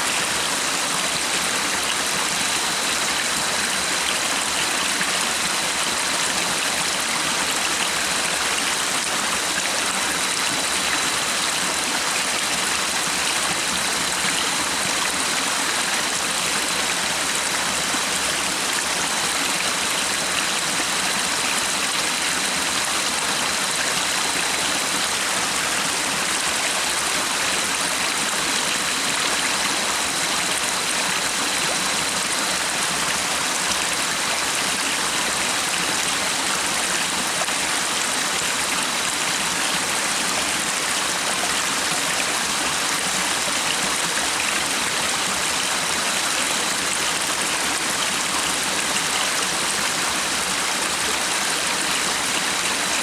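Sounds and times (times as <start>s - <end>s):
stream of water rushing: 0.0s - 53.0s.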